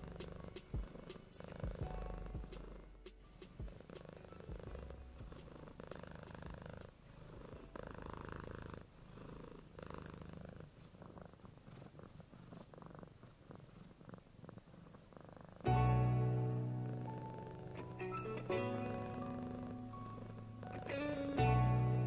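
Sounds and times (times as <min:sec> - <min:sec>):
kitten purring: 0:00.0 - 0:15.7, 0:16.3 - 0:22.0.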